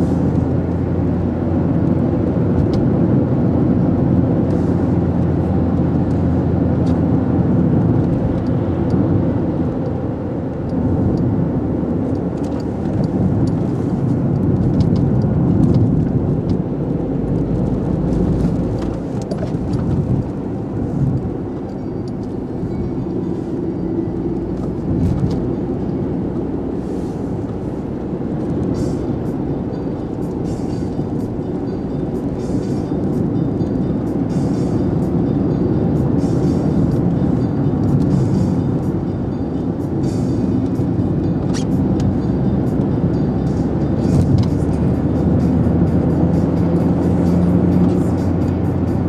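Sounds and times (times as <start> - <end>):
car engine and tyre noise: 0.0 - 49.0.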